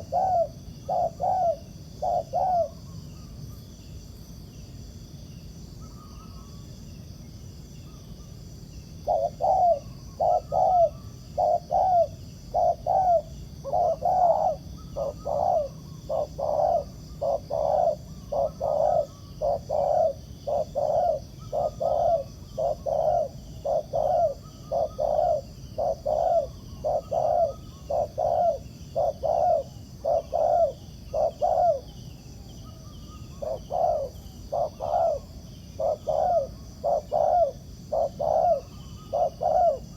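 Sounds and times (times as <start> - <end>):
doves cooing: 0.0 - 2.8, 9.0 - 32.0, 33.3 - 39.9
high insect drone: 0.0 - 39.9.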